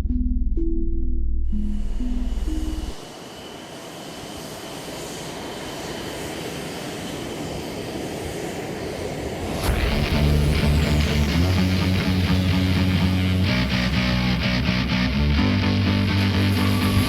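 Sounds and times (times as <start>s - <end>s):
jet engine running: 1.8s - 17.0s.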